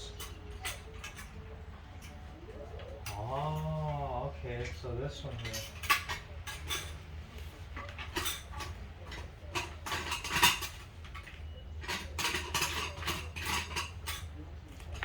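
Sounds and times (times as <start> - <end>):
metal parts clinking and rattling: 0.0 - 2.2, 4.6 - 15.0.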